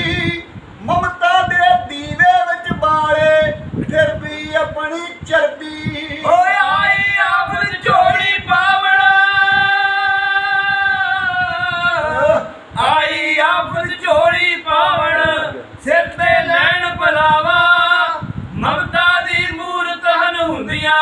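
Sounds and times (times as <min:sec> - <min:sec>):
men singing unaccompanied: 0:00.0 - 0:21.0.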